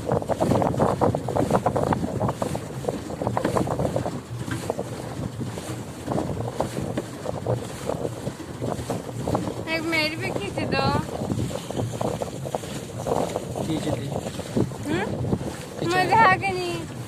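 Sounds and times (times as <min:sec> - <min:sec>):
water rushing: 0:00.0 - 0:17.0
wind buffeting microphone: 0:00.0 - 0:17.0.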